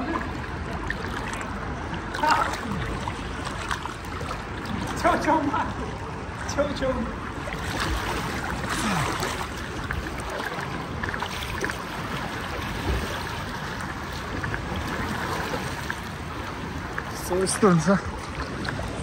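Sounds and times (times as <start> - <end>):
pool water sloshing and splashing: 0.0 - 19.0.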